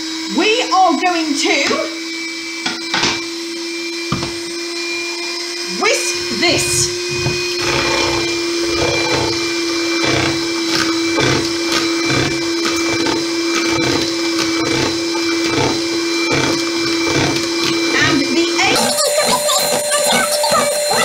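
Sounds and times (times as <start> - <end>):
electric hand mixer whine: 0.0 - 21.0.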